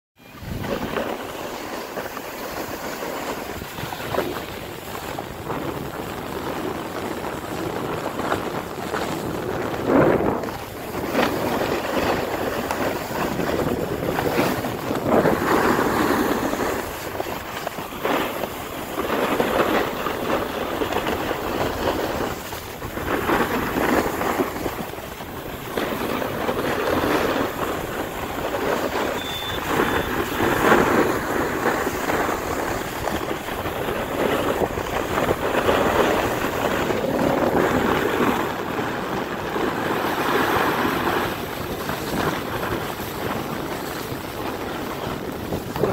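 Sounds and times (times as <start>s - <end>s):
wind over microphone: 0.2s - 45.9s
skis scraping over snow: 0.3s - 45.9s.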